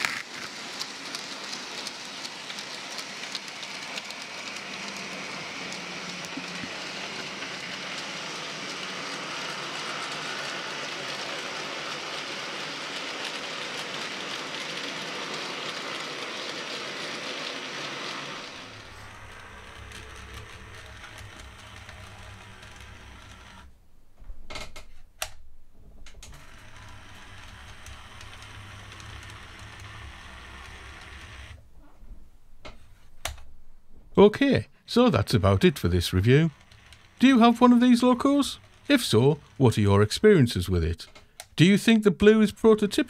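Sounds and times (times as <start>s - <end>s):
model train rattling on track: 0.0s - 23.7s, 26.4s - 31.5s, 34.9s - 41.1s.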